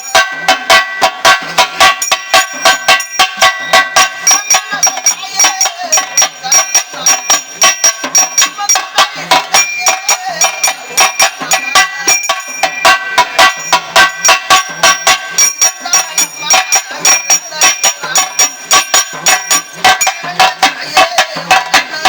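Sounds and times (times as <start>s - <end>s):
fast temple drumming: 0.0s - 22.0s
metallic ringing: 0.0s - 22.0s.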